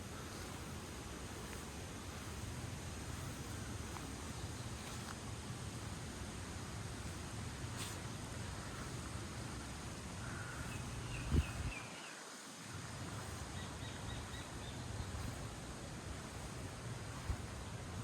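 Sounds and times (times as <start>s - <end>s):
steady low rumble: 0.0s - 11.8s, 12.6s - 18.0s
small birds chirping: 0.0s - 18.0s.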